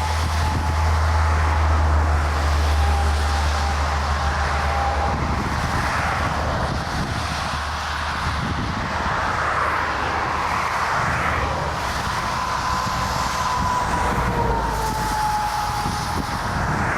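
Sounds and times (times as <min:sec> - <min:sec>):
jet engines rushing: 0:00.0 - 0:16.9.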